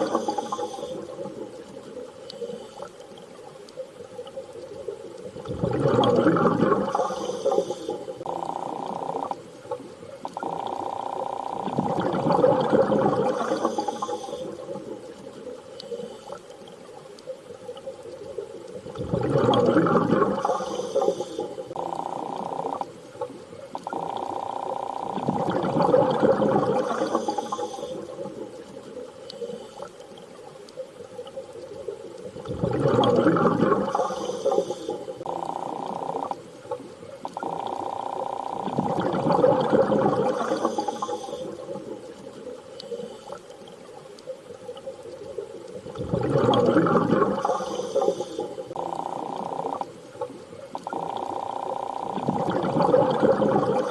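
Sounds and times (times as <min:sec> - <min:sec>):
underwater rushing water swells: 0:00.0 - 0:53.9.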